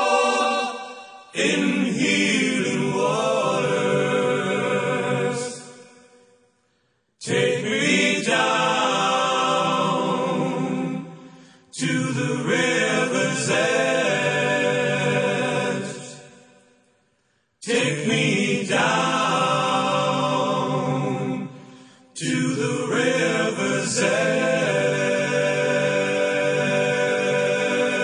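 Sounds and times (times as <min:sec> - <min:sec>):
song with singing: 0:00.0 - 0:06.6, 0:07.2 - 0:17.0, 0:17.6 - 0:28.0.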